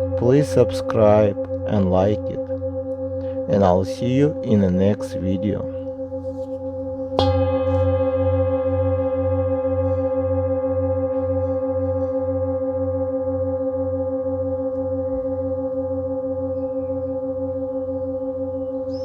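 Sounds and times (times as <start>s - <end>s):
singing bowl ringing: 0.0s - 19.0s.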